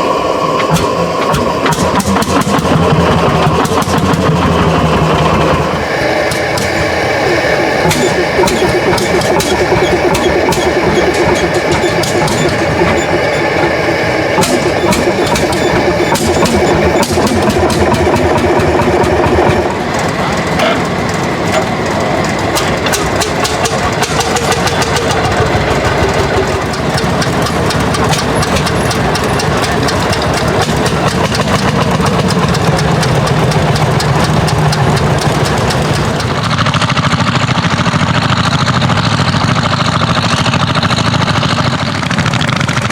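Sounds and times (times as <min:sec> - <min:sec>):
old tractor engines knocking: 0:00.0 - 0:42.9.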